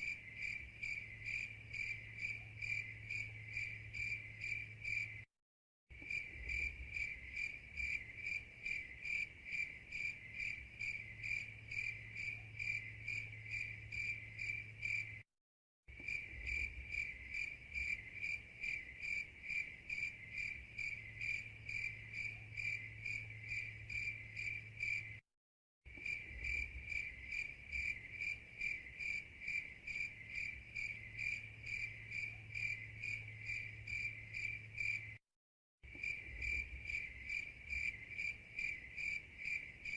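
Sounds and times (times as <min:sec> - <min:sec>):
crickets chirping: 0:00.0 - 0:05.3, 0:06.0 - 0:15.2, 0:15.9 - 0:25.2, 0:25.9 - 0:35.2, 0:35.9 - 0:39.9.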